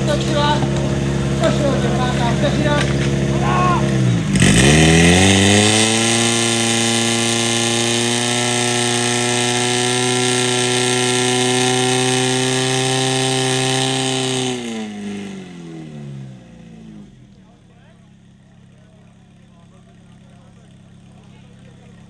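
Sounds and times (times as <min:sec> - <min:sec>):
fire pump engine running: 0:00.0 - 0:22.0.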